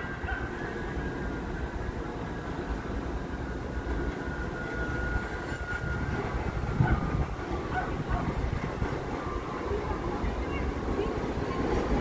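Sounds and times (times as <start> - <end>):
faint high whine: 0.0 - 12.0
train wheels rumbling on rail: 0.0 - 12.0.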